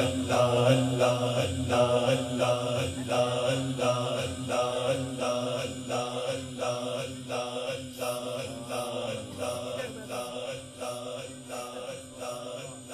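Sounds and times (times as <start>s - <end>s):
man chanting: 0.0s - 12.9s.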